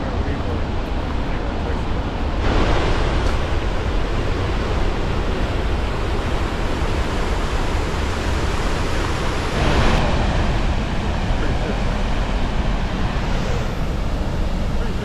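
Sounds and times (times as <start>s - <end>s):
waterfall rushing: 2.3s - 15.0s.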